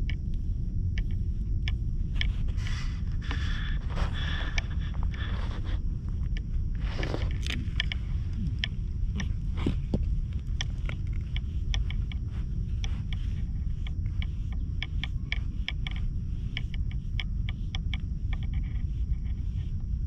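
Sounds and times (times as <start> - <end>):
small sharp ticks: 0.0 - 20.0
wind rumbling on microphone: 0.0 - 20.0.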